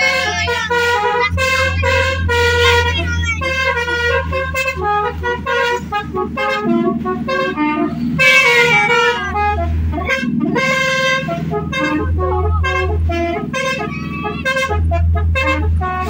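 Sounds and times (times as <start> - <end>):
bus engine drone: 0.0 - 16.0
multi-tone bus horn melody: 0.0 - 16.0.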